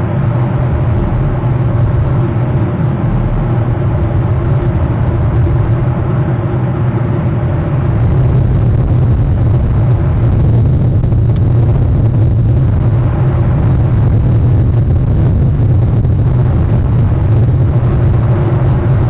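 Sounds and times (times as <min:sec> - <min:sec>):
low rumbling noise with hiss: 0:00.0 - 0:19.0.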